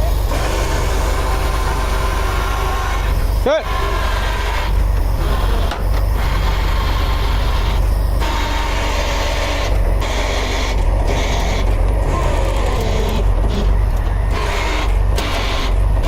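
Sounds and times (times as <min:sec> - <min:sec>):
tow truck diesel engine running: 0:00.0 - 0:16.0.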